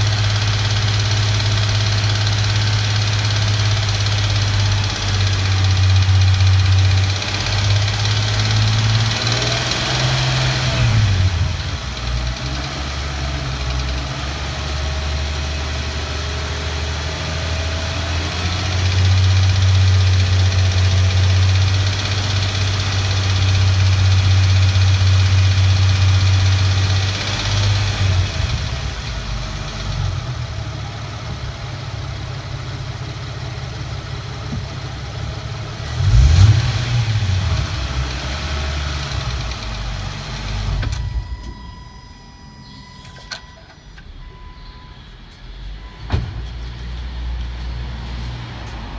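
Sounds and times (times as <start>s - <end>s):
car engine revving: 0.0s - 41.5s.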